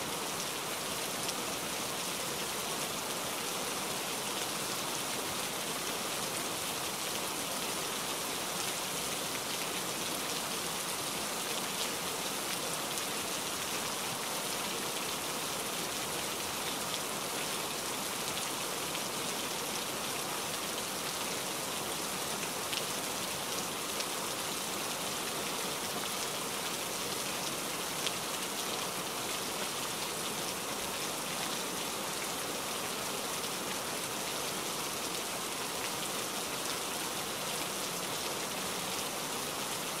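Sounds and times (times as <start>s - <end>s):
steady rain-like hiss: 0.0s - 40.0s.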